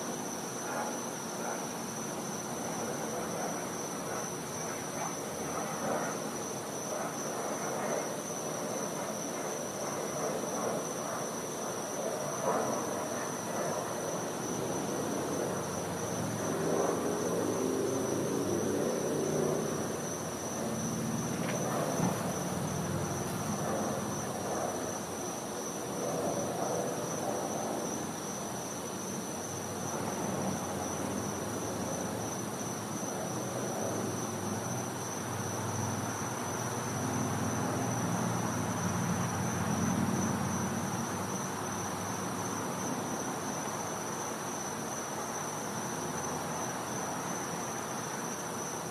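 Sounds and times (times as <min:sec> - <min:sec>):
night insects trilling: 0:00.0 - 0:48.9.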